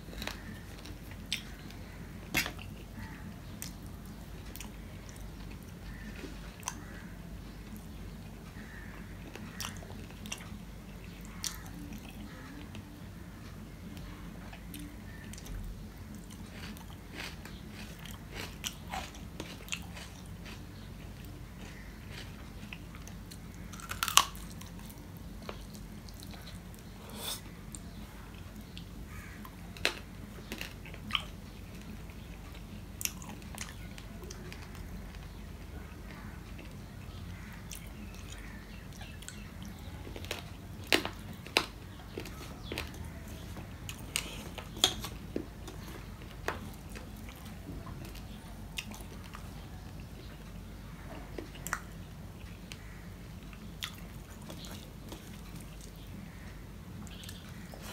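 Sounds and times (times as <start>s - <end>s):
low steady hum: 0.0s - 57.9s
man chewing food: 0.0s - 57.9s.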